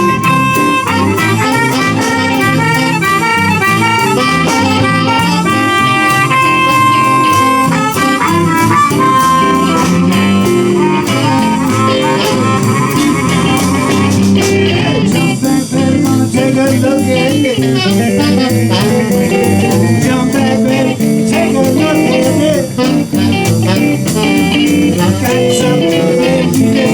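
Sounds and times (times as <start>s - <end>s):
live blues band playing: 0.0s - 26.9s
wind instrument lead: 0.0s - 26.9s.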